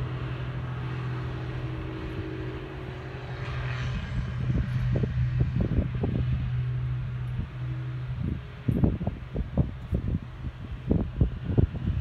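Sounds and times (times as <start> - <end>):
diesel engine running: 0.0 - 12.0
low rumbles: 0.0 - 12.0.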